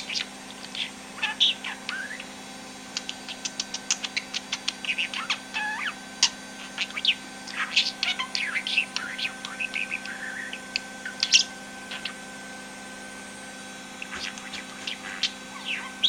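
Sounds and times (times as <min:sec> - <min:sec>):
budgerigar chattering: 0:00.0 - 0:02.3, 0:02.9 - 0:12.2, 0:14.0 - 0:16.0.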